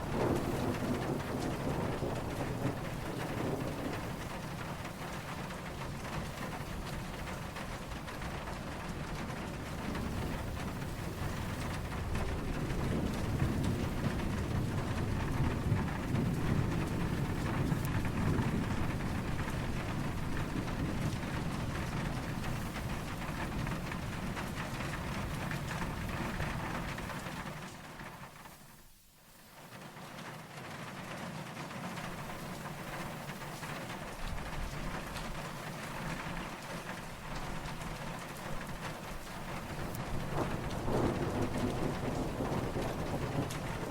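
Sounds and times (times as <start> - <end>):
distant thunder rumble: 0.0 - 28.6, 32.0 - 43.9
steady rain falling: 0.0 - 43.9.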